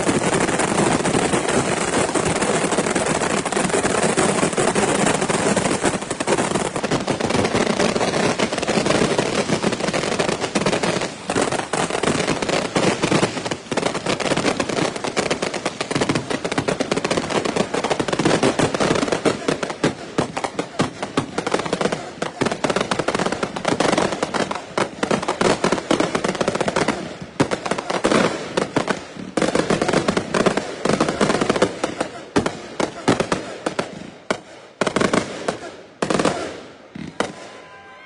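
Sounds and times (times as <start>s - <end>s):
fireworks crackling pops: 0.0s - 37.9s.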